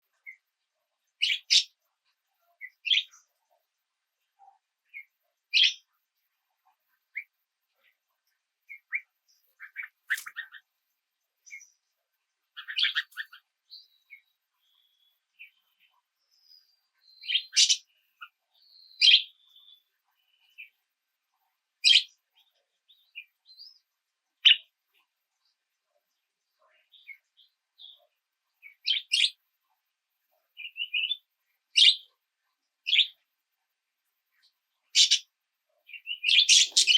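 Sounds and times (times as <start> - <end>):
songbird chirping: 0.0 - 36.9.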